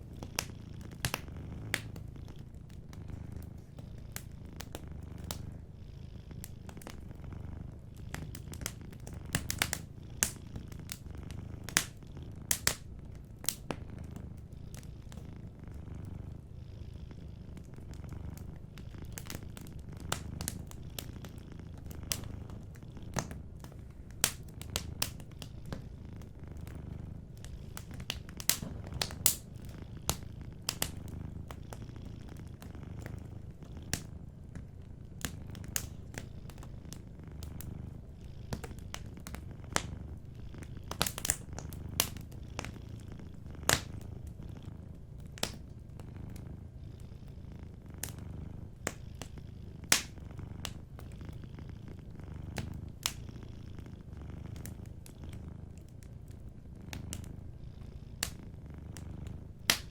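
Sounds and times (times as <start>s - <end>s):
wood fire crackling: 0.0s - 46.8s, 47.7s - 57.5s, 58.2s - 59.9s
cat purring: 0.0s - 59.9s.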